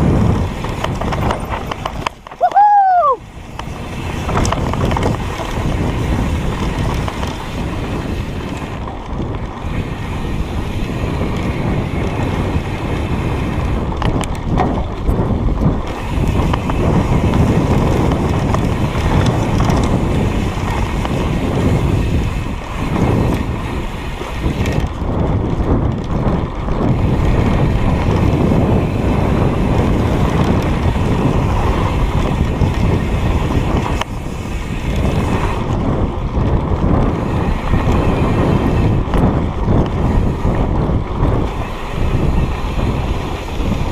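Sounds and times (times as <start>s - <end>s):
bicycle rattling on dirt trail: 0.0s - 43.9s
wind buffeting microphone: 0.0s - 43.9s.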